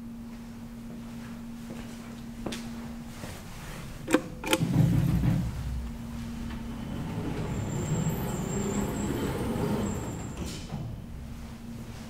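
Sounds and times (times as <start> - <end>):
elevator low rumble: 0.0 - 12.0
elevator mechanical hum: 0.0 - 12.0.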